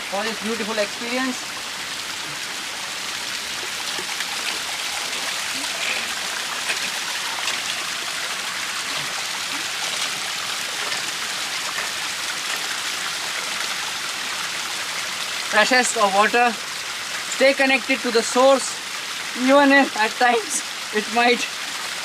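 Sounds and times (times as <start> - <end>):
water running and splashing: 0.0 - 22.0.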